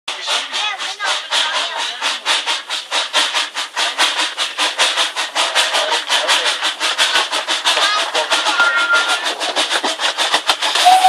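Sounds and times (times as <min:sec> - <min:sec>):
steam locomotive chuffing: 0:00.1 - 0:11.0.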